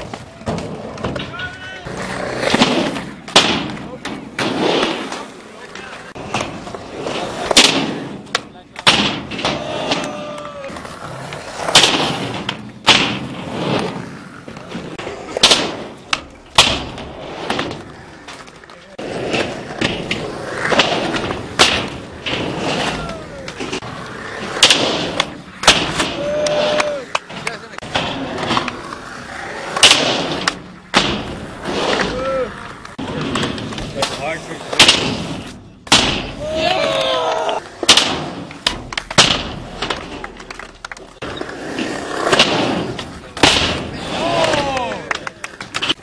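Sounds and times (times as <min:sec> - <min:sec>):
skateboards clacking: 0:00.0 - 0:46.0
skateboards rolling on concrete: 0:00.0 - 0:46.0.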